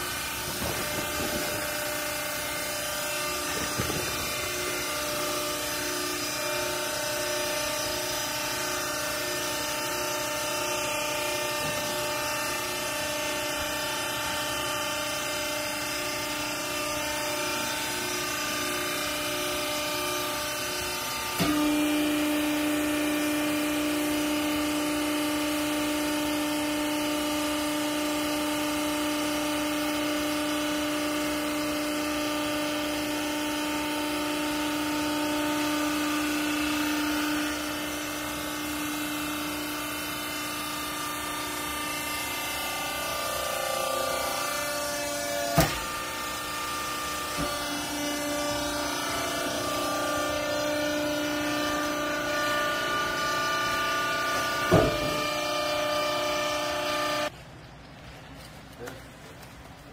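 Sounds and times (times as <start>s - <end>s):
hydraulic ram whine: 0.0s - 57.4s
electric pump humming: 0.0s - 59.0s.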